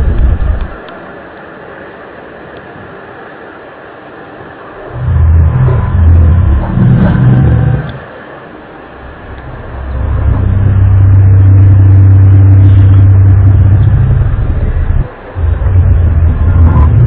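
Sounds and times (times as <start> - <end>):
loud low droning hum: 0.0 - 17.0.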